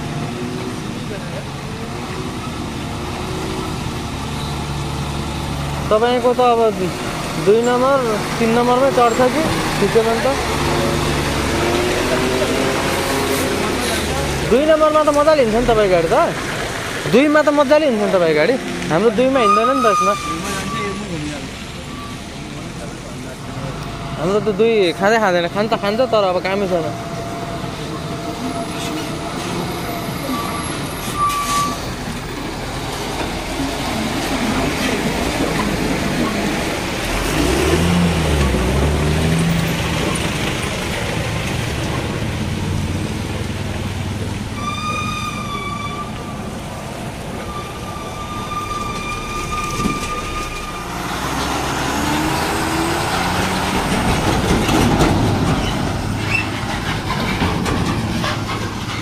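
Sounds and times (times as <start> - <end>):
heavy engine rumble: 0.0 - 59.0
traffic engines and road noise: 0.0 - 59.0.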